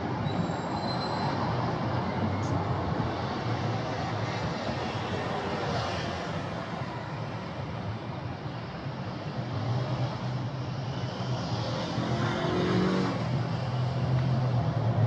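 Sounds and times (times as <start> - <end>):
outdoor city noise: 0.0 - 15.0.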